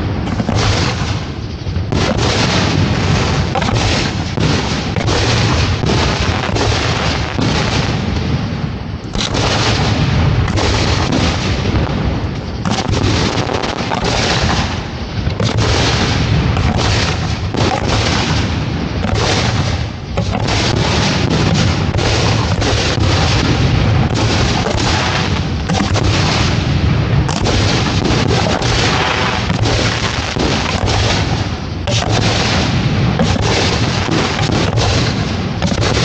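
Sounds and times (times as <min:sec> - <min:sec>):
fireworks booming and cracking: 0:00.0 - 0:36.0.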